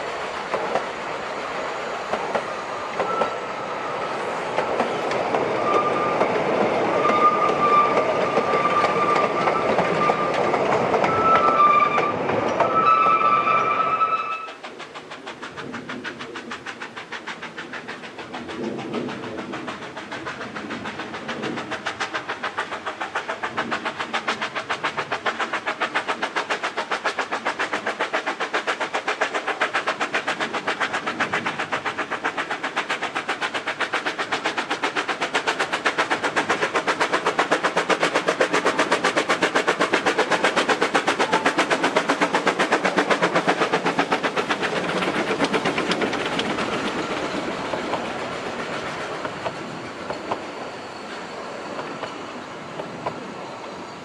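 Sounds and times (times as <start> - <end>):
steam locomotive exhaust beats: 0.0 - 54.0
train wheels clattering on rail: 0.0 - 54.0.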